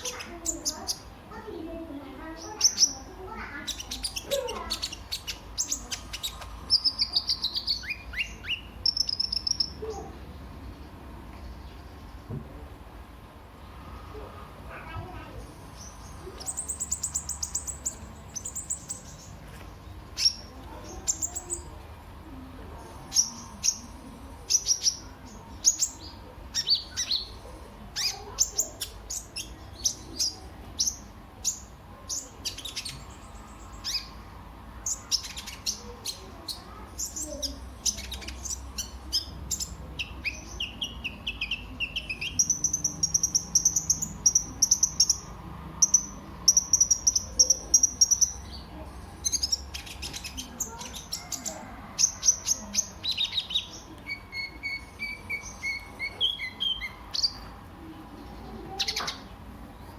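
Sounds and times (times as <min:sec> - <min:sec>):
sunbird chirping and trilling: 0:00.0 - 0:12.3, 0:13.5 - 0:21.8, 0:22.8 - 0:59.9.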